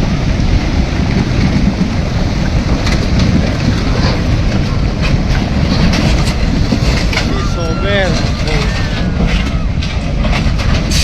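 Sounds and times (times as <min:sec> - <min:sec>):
landslide rumbling rush: 0:00.0 - 0:11.0.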